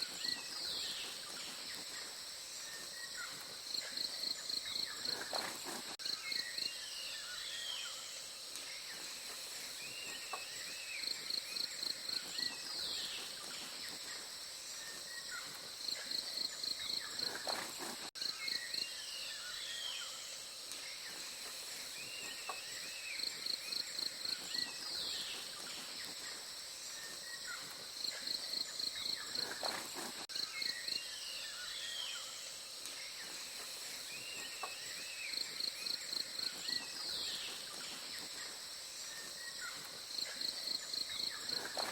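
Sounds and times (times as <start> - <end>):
high insect drone: 0.0 - 41.9.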